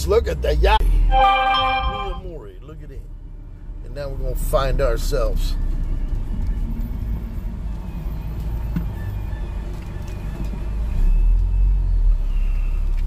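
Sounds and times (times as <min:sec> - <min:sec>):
car engine and road rumble: 0:01.9 - 0:13.0.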